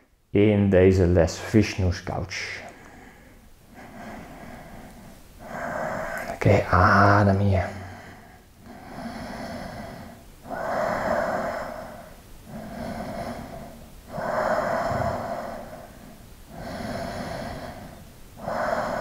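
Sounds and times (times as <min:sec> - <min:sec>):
man breathing deeply: 0:02.5 - 0:19.0.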